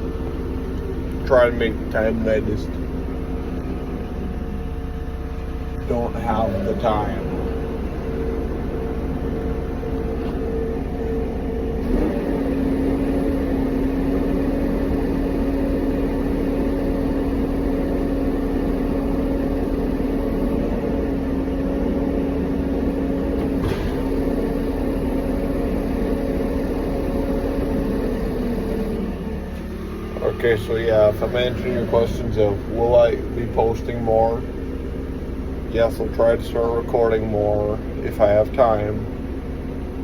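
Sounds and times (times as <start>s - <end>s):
vehicle engine running steadily: 0.0s - 40.0s.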